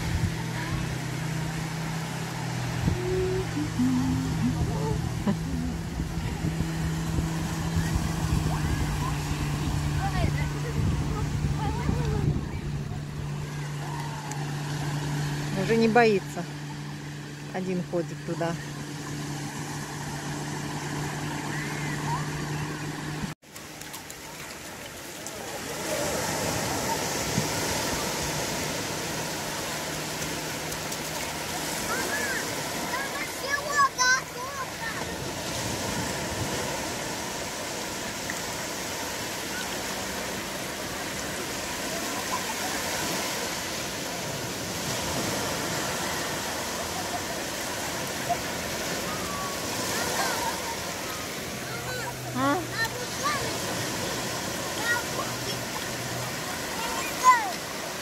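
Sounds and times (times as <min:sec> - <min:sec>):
engine hum: 0:00.0 - 0:58.0
waves breaking on sand: 0:00.0 - 0:58.0.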